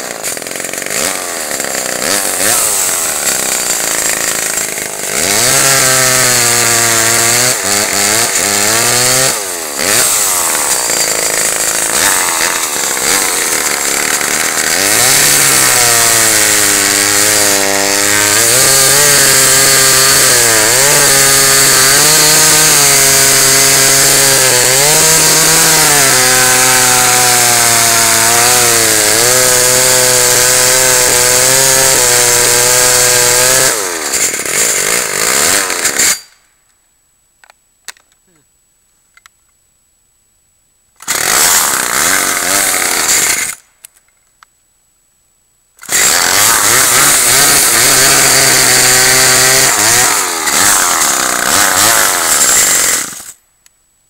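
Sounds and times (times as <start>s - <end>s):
chainsaw cutting wood: 0.0s - 36.4s, 41.0s - 44.0s, 45.8s - 53.5s.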